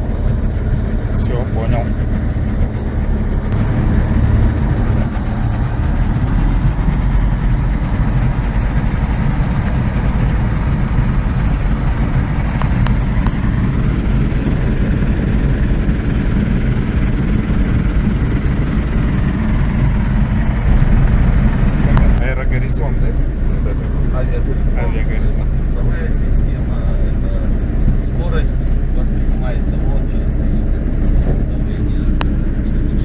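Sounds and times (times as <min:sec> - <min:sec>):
light aircraft engine and propeller: 0:00.0 - 0:33.0.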